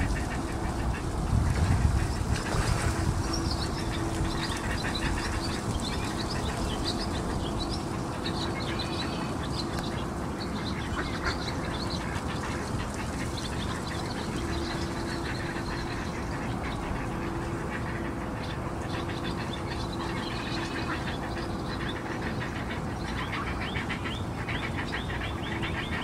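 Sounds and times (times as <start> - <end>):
birds calling: 0.0 - 26.0
distant traffic rumble: 0.0 - 26.0.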